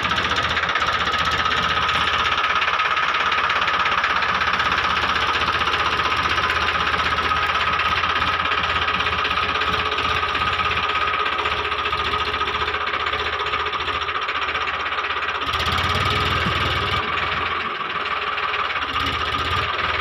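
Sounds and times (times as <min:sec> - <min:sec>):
tractor engine knocking: 0:00.0 - 0:20.0.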